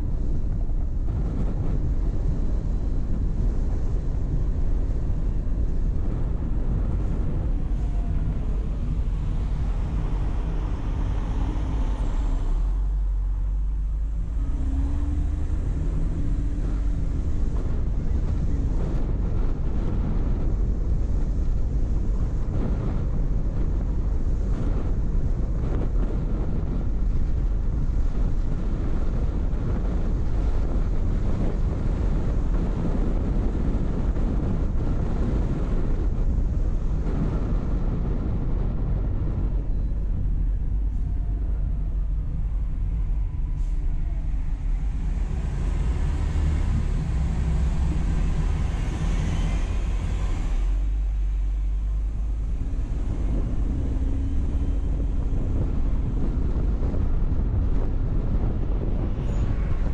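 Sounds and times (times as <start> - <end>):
car engine and road rumble: 0.0 - 59.9
wind buffeting microphone: 0.0 - 59.9.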